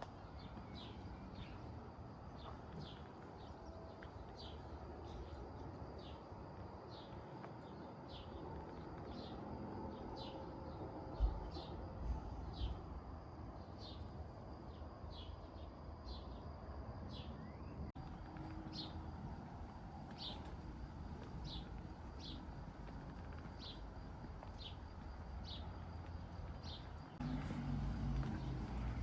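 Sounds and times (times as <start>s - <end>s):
faint outdoor rumble: 0.0s - 29.0s.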